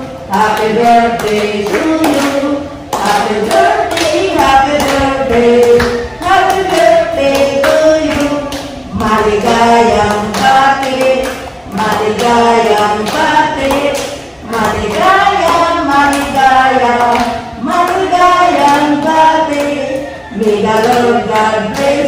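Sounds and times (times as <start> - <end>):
woman singing through a loudspeaker: 0.0 - 22.0.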